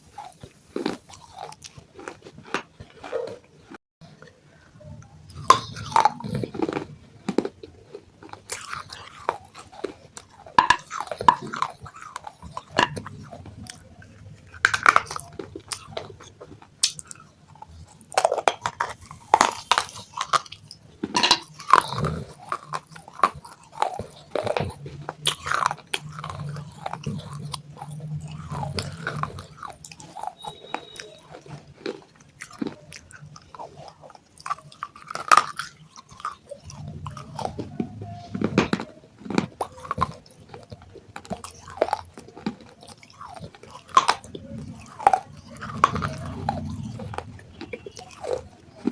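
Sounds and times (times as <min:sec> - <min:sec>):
person chewing crunchy clay: 0:00.0 - 0:48.9.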